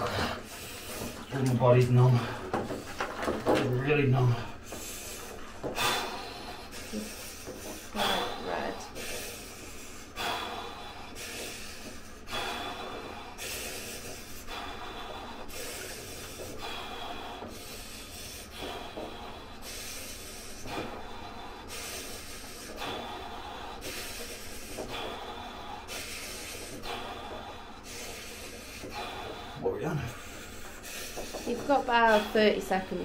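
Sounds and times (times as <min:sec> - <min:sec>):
man breathing heavily: 0:00.0 - 0:33.0.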